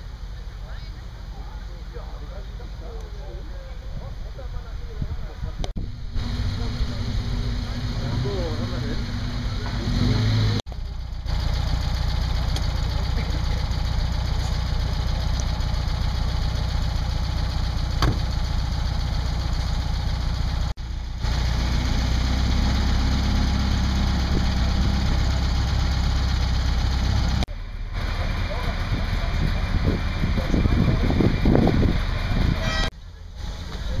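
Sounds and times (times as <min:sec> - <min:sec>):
car engines idling: 0:00.0 - 0:34.0.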